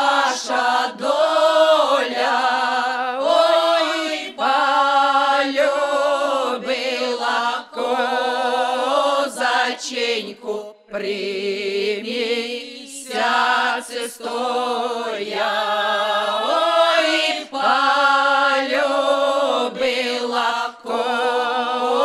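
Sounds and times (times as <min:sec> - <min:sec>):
women singing unaccompanied folk song: 0:00.0 - 0:22.0.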